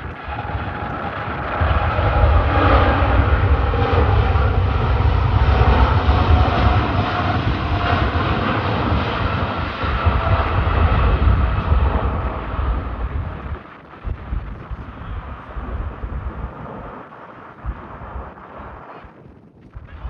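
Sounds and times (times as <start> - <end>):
jet engines rumbling: 0.0 - 19.2.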